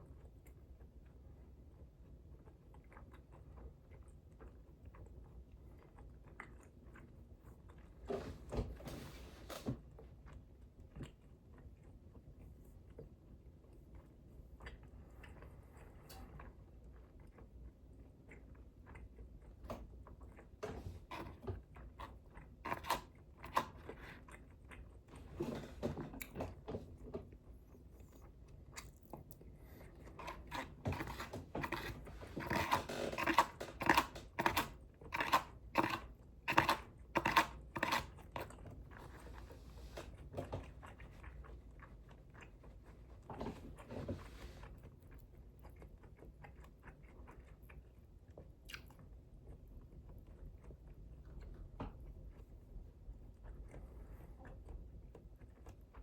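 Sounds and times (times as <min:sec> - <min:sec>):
person chewing food: 0:00.0 - 0:08.5, 0:09.5 - 0:56.0.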